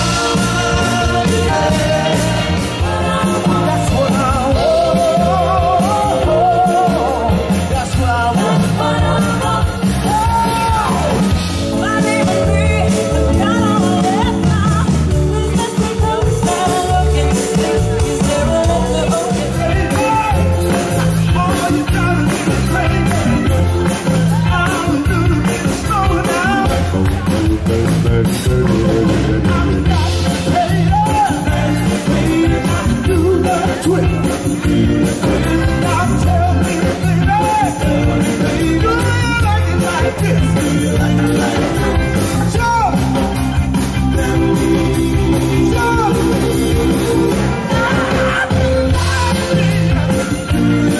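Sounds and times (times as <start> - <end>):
person singing: 0.0 - 43.0, 44.2 - 50.9
live band playing soul song: 0.0 - 50.9.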